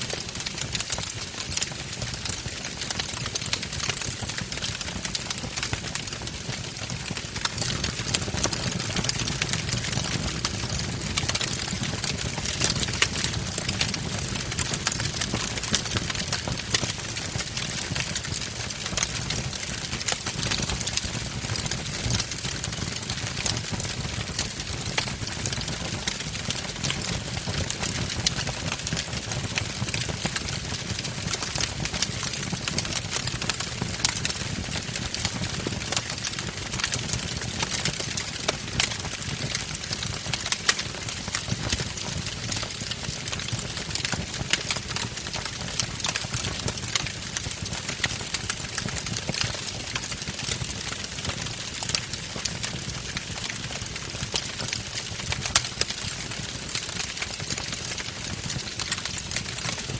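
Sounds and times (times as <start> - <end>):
fire rumbling: 0.1 - 52.5
logs crackling and popping: 0.1 - 59.9.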